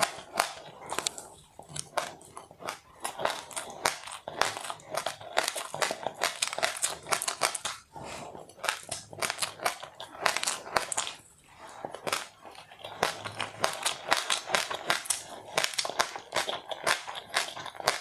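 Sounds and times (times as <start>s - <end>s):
crunchy snack being chewed: 0.0s - 18.0s.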